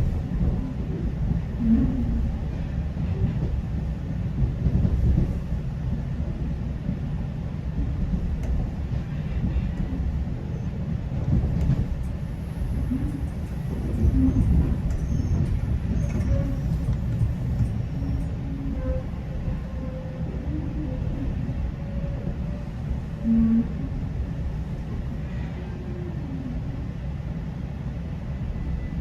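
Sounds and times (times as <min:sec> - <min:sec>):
faint clicks of train: 0:00.0 - 0:29.0
train rumbling on track: 0:00.0 - 0:29.0.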